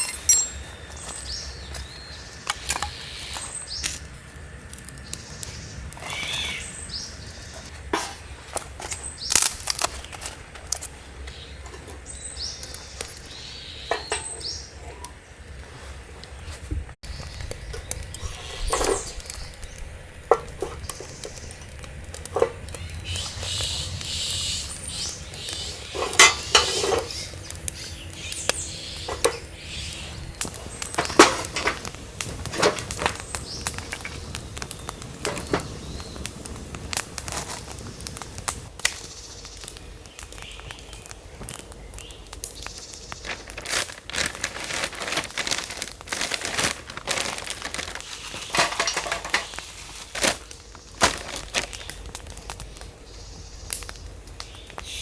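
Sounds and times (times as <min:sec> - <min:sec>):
crinkling: 0:00.0 - 0:54.9.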